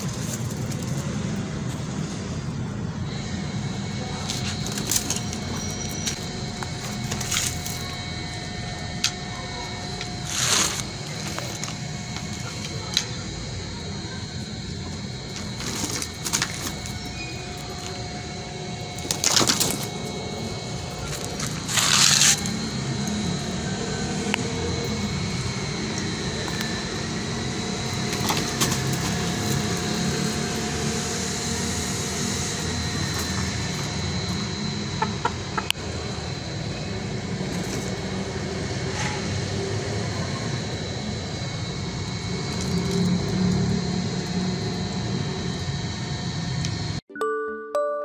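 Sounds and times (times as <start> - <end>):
mechanical rumble with hum: 0.0 - 47.0.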